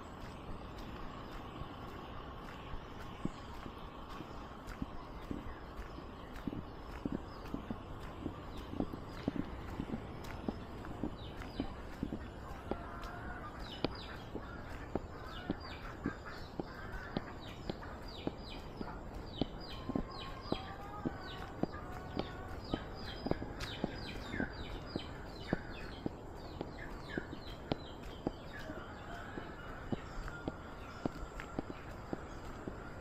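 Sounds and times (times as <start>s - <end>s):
birds chirping: 0.0s - 33.0s
footsteps walking: 0.0s - 33.0s.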